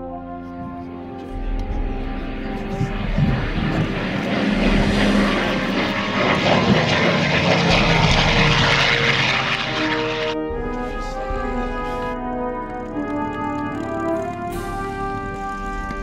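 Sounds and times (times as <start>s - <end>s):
brass music: 0.0s - 16.0s
propeller plane engine flypast: 0.0s - 16.0s.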